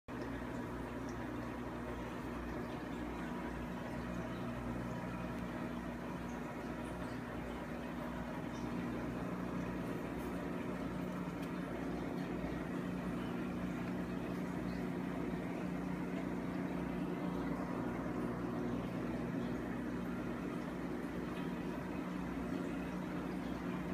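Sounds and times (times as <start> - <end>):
aquarium pump hum: 0.1 - 23.9.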